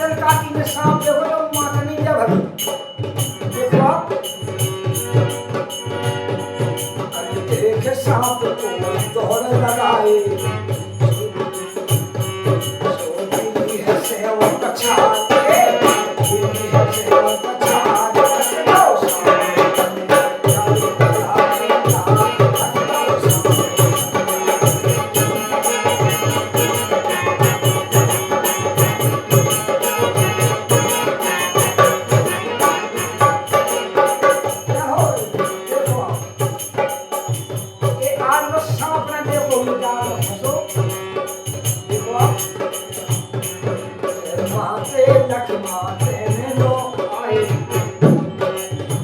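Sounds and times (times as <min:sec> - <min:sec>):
hand drum beating: 0:00.0 - 0:49.0
jingling percussion: 0:00.0 - 0:49.0.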